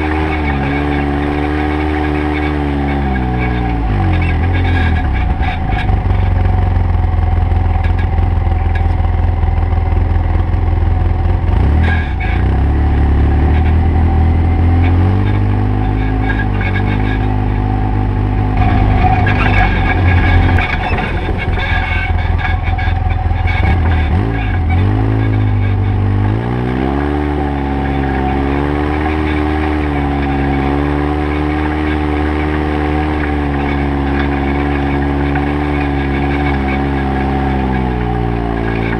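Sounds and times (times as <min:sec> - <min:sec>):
utility vehicle engine running: 0:00.0 - 0:38.9.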